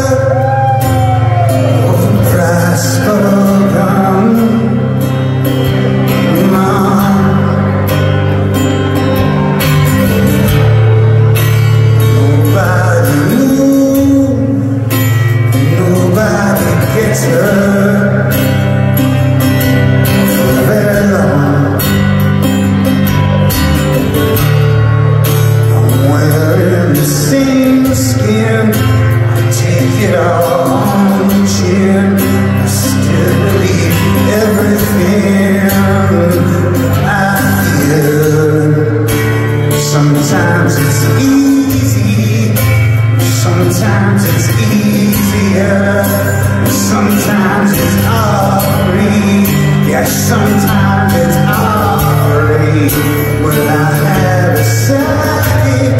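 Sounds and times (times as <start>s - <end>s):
man singing: 0.0s - 24.4s, 25.0s - 55.9s
strummed acoustic guitar: 0.0s - 55.9s.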